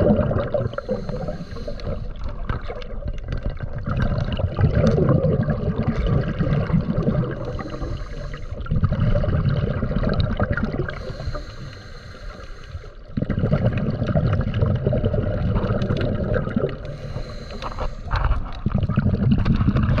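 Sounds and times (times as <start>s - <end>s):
underwater bubbling and rushing water: 0.0s - 20.0s.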